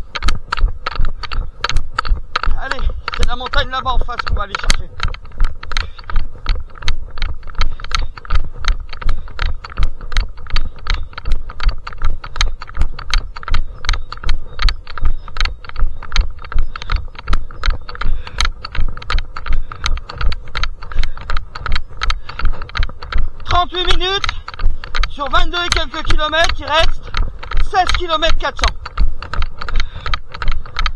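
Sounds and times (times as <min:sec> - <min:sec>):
camera gear clicking rattle: 0:00.0 - 0:30.9
running footsteps thudding: 0:00.0 - 0:30.9.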